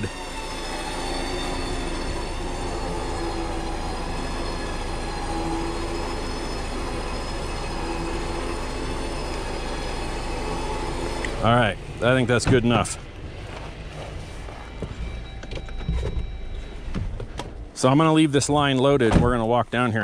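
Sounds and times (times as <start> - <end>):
electric winch whine: 0.0 - 19.8.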